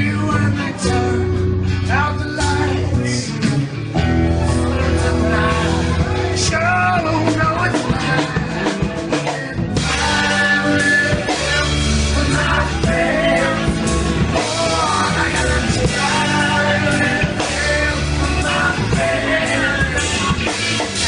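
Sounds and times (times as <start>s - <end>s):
man singing: 0.0s - 3.7s, 4.8s - 21.0s
bass: 0.0s - 21.0s
drums: 0.0s - 21.0s
electric guitar: 0.0s - 21.0s.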